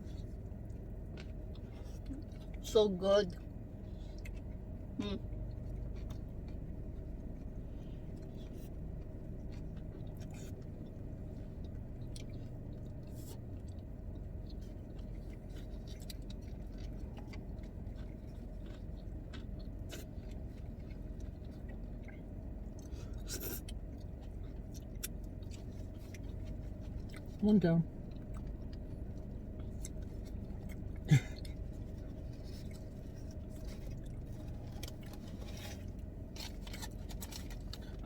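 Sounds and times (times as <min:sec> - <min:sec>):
person chewing food: 0:00.0 - 0:02.6, 0:03.3 - 0:38.0
low hum: 0:00.0 - 0:38.0.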